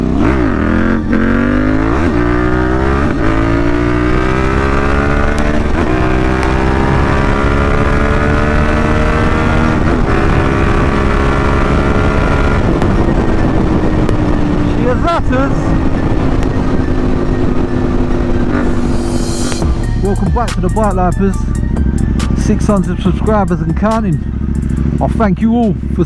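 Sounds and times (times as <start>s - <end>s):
motorcycle engine accelerating through gears: 0.0s - 26.0s.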